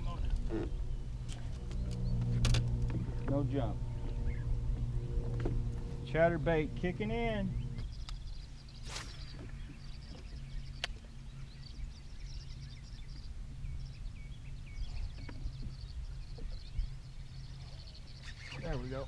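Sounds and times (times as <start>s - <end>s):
birds chirping and trilling: 0.0s - 19.0s
steady low hum: 0.0s - 19.0s.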